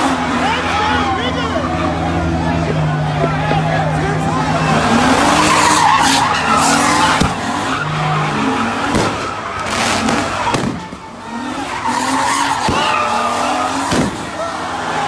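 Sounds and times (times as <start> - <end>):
car engine: 0.0 - 15.0
tyres squealing: 0.0 - 15.0.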